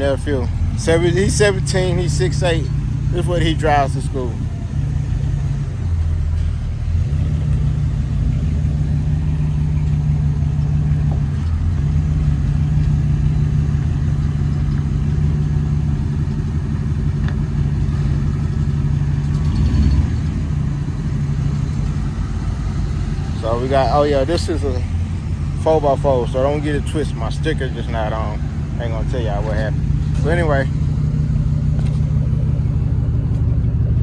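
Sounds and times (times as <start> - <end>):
pickup truck engine idling: 0.0 - 34.0.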